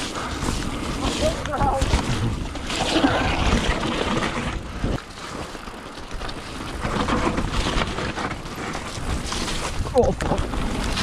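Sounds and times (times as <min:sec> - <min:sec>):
bike rattling over bumps: 0:00.0 - 0:11.0
bike tyres rolling over mud: 0:00.0 - 0:11.0
wind rumble on microphone: 0:00.0 - 0:11.0.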